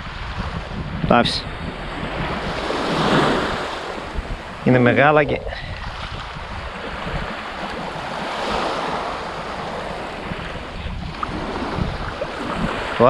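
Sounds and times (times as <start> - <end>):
waves washing over pebbles: 0.0 - 13.0
wind buffeting microphone: 0.0 - 13.0.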